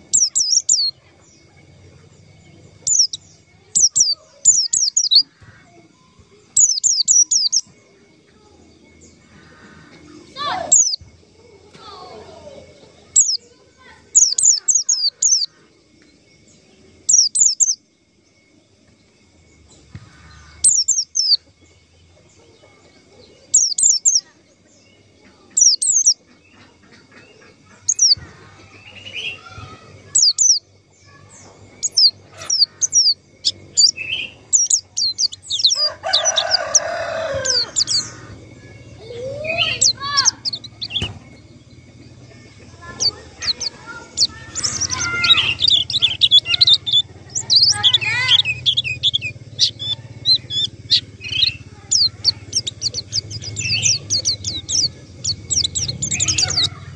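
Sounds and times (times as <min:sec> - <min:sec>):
bird chirps high downward-slurred: 0:00.0 - 0:07.8, 0:10.1 - 0:15.6, 0:17.0 - 0:17.8, 0:19.7 - 0:21.5, 0:23.2 - 0:24.3, 0:25.5 - 0:26.2, 0:27.6 - 0:56.9.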